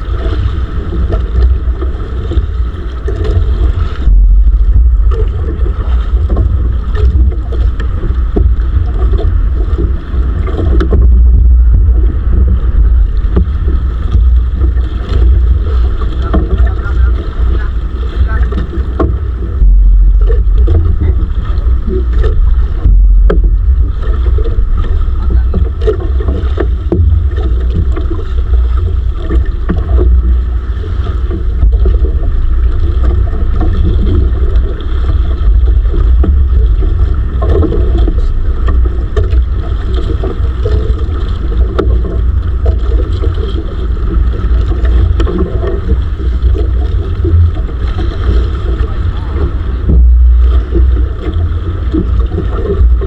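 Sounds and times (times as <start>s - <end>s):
boat noise: 0.0s - 53.0s
wind buffeting microphone: 0.0s - 53.0s.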